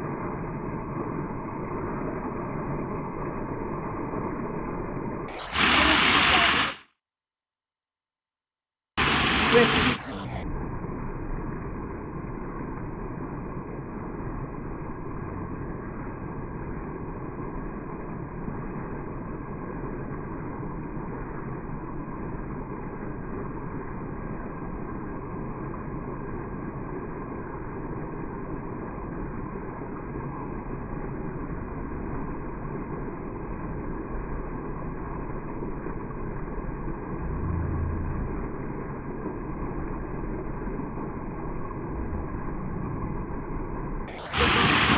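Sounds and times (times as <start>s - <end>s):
waterfall muffled rush: 0.0s - 6.8s, 9.0s - 44.9s.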